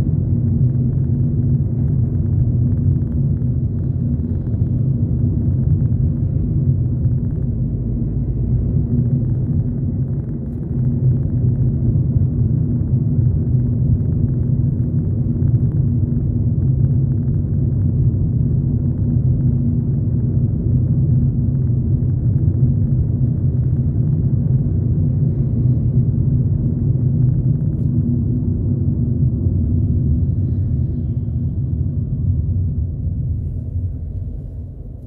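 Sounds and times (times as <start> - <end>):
car interior engine and road noise: 0.0 - 35.0.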